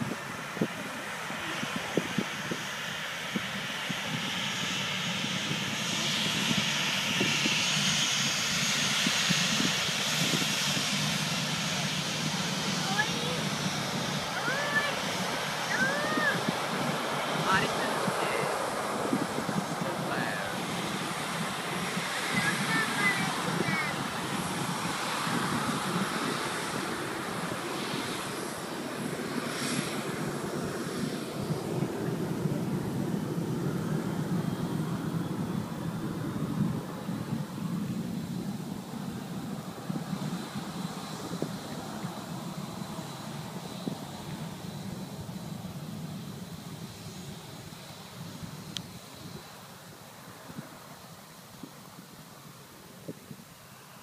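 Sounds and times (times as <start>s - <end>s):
jet engines rushing hiss: 0.0s - 54.0s.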